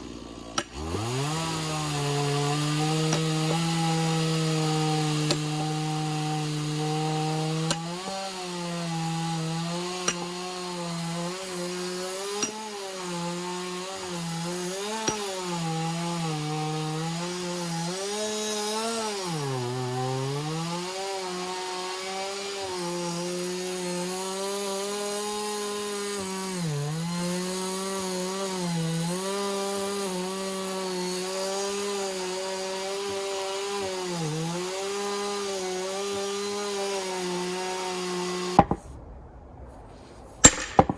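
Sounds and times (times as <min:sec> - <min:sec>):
chainsaw cutting wood: 0:00.0 - 0:38.9, 0:40.4 - 0:40.9.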